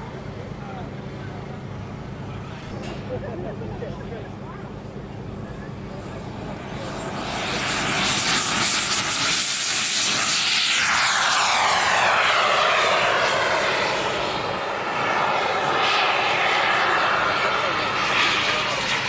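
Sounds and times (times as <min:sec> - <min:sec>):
model jet engine whine: 0:00.0 - 0:19.0.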